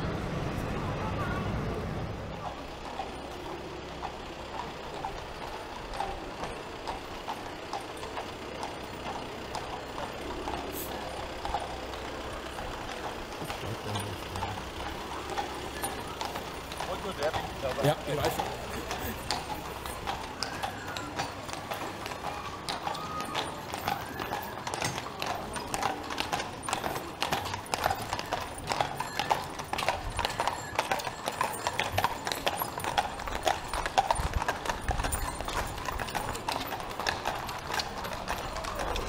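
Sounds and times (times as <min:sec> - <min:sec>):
horse hooves clip-clopping on pavement: 0:02.4 - 0:39.0.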